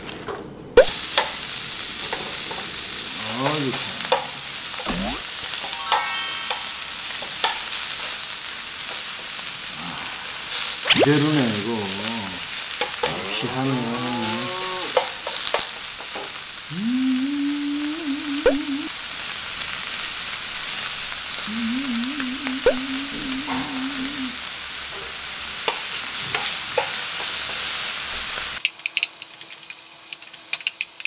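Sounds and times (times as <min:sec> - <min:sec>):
meat sizzling in a frying pan: 0:00.8 - 0:31.0.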